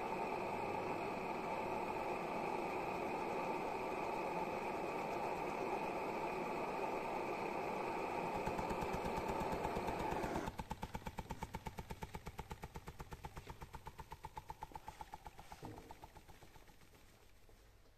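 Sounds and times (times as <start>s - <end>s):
hot air engine piston beating: 0.0s - 16.8s
steady hiss: 0.0s - 17.9s.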